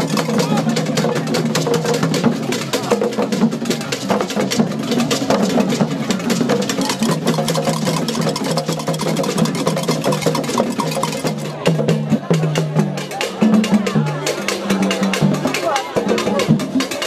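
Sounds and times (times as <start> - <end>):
crowd voices: 0.0 - 17.0
hand drums playing fast rhythm: 0.0 - 17.0.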